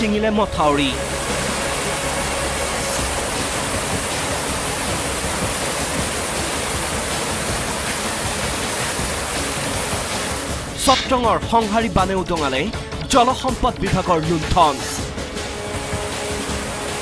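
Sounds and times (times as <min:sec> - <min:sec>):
floodwater rushing: 0:00.0 - 0:12.6, 0:15.2 - 0:17.0.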